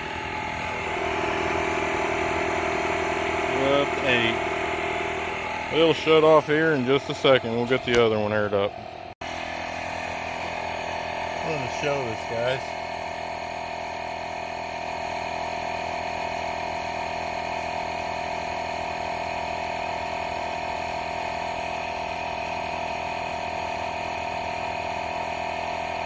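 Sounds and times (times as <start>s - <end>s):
tire inflator compressor running: 0.0s - 26.0s.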